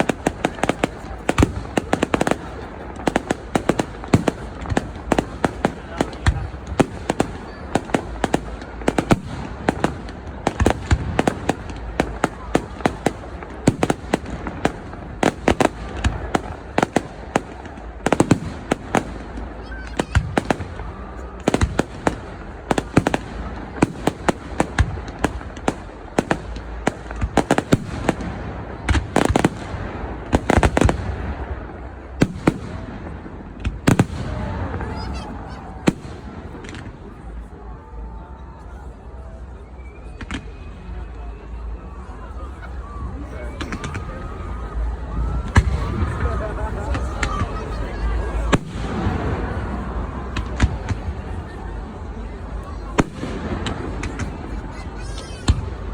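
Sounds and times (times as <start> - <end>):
crowd voices: 0.0 - 55.9
fireworks bangs and crackles: 0.0 - 55.9.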